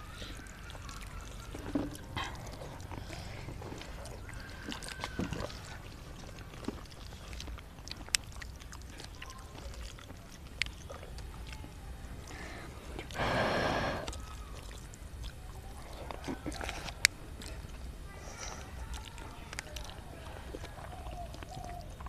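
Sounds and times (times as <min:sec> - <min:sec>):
wet mouth slurping noises: 0:00.0 - 0:22.0.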